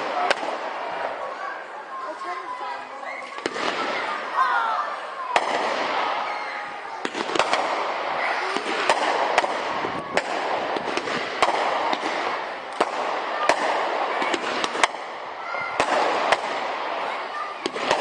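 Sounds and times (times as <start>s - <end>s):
firework bangs: 0.0s - 1.6s, 3.3s - 18.0s.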